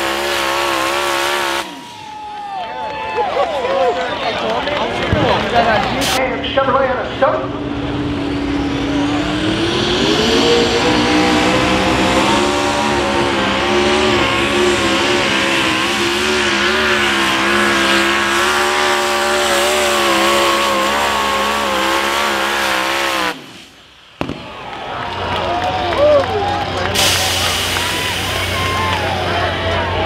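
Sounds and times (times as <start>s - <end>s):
pulling tractor engine revving: 0.0s - 30.0s.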